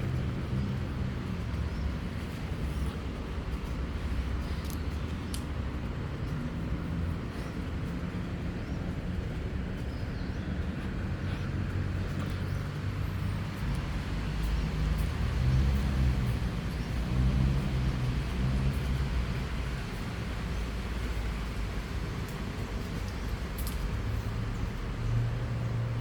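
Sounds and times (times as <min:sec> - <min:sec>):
passing vehicle engine rumble: 0:00.0 - 0:26.0.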